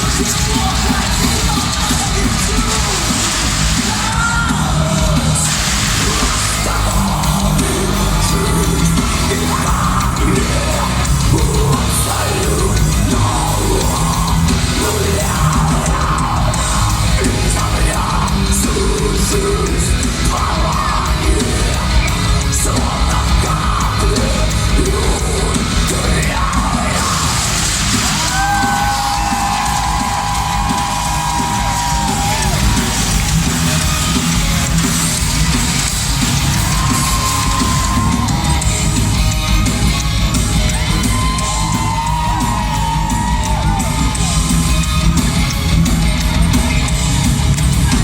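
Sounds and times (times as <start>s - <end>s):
heavy rock music with singing: 0.0s - 48.0s.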